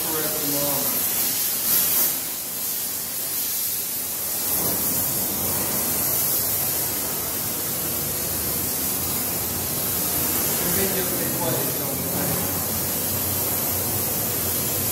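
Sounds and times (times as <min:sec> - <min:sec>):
torch flame hissing: 0:00.0 - 0:14.9.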